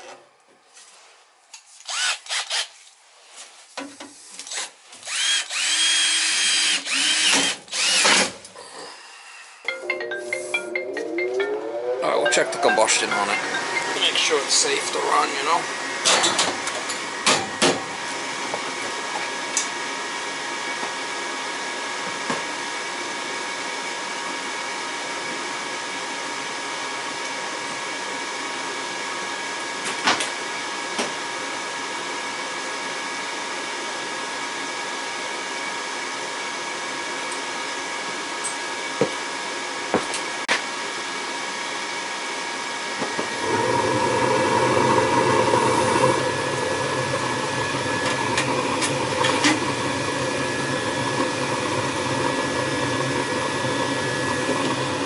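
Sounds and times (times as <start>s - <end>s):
furnace motor hum with whine: 5.1s - 55.0s.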